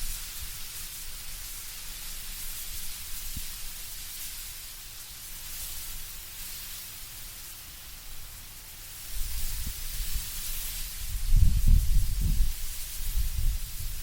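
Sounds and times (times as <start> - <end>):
leaves rustling in wind: 0.0 - 14.0.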